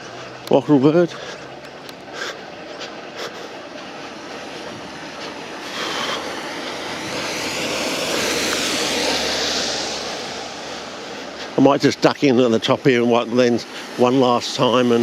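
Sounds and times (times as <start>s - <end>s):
aircraft engine rushing overhead: 0.0s - 15.0s.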